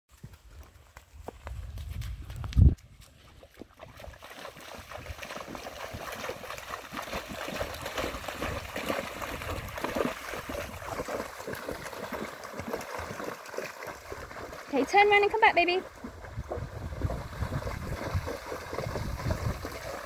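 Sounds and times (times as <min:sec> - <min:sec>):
animals splashing through water: 0:03.2 - 0:20.0.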